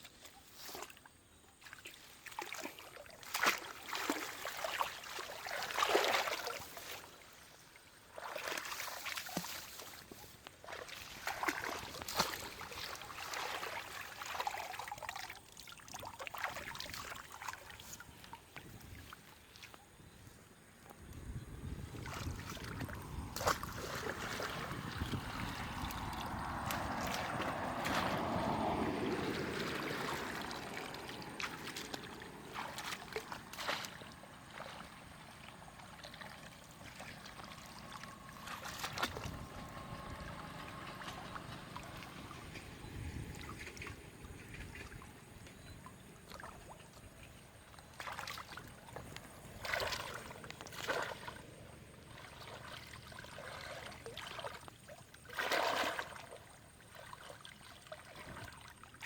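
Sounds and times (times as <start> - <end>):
water sloshing and trickling: 0.0 - 59.0
water splashes: 0.0 - 59.0.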